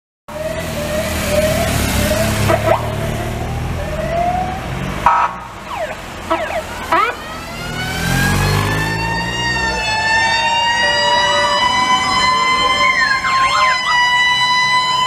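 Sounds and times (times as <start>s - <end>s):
engine rumble: 0.3s - 15.0s
police siren wailing: 0.3s - 15.0s
siren chirps: 0.3s - 15.0s.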